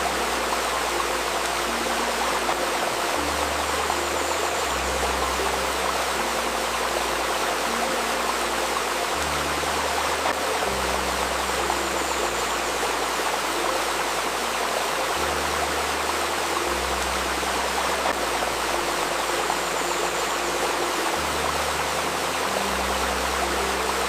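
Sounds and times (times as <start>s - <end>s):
babbling river: 0.0s - 24.0s.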